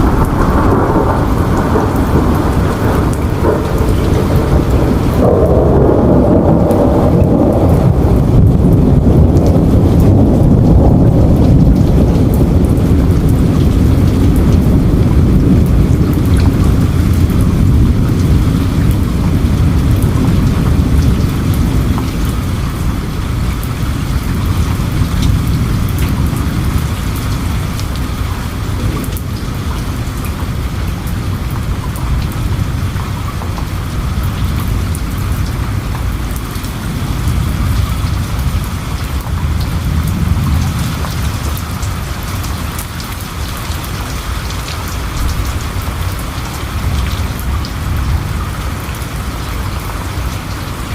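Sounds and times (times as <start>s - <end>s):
heavy rain: 0.0s - 50.9s
rolling thunder: 0.0s - 50.9s.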